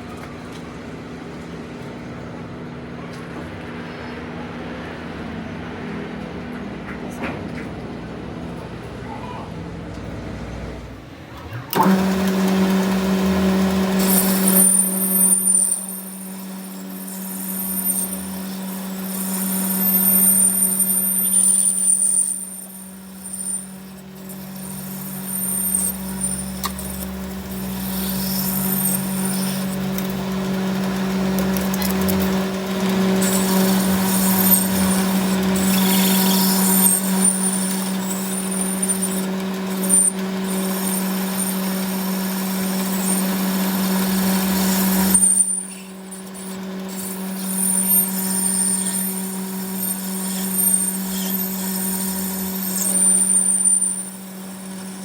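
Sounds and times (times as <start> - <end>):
steady machine hum: 8.0 - 55.0
machine mechanical noise: 8.3 - 55.0.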